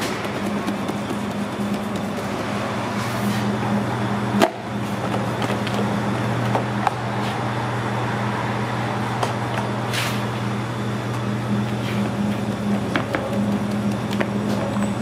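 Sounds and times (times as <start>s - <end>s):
kitchen equipment humming: 0.0s - 15.0s.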